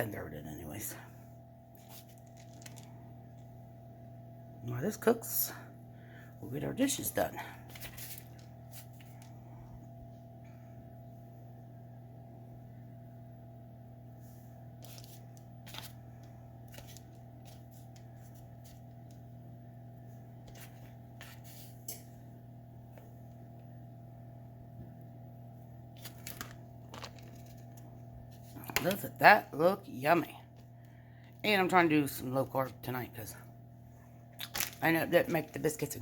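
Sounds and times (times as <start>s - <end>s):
low room hum: 0.0s - 36.0s.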